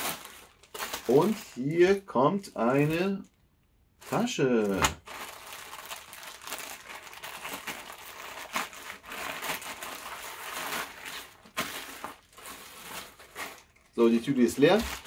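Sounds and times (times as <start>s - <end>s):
plastic packaging crinkling: 0.0s - 1.7s, 2.4s - 3.3s, 4.0s - 15.0s.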